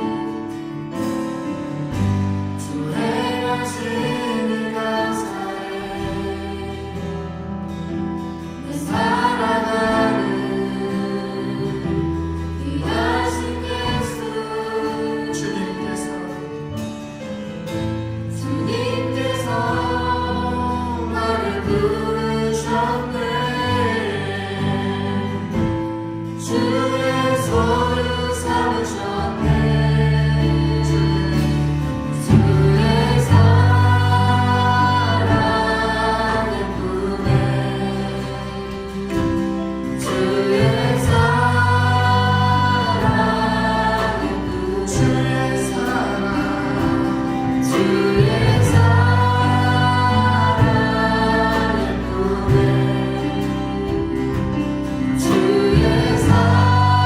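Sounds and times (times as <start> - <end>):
people singing: 0.0 - 57.0
worship band playing: 0.0 - 57.0.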